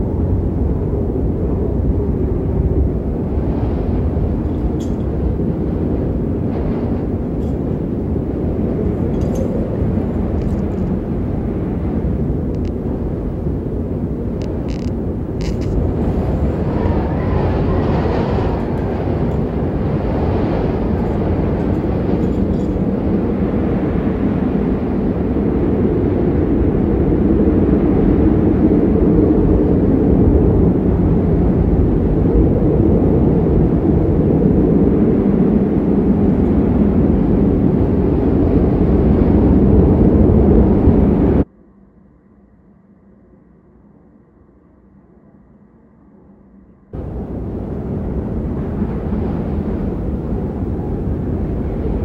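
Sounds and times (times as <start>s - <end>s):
strong wind on microphone: 0.0s - 41.5s, 46.9s - 52.0s.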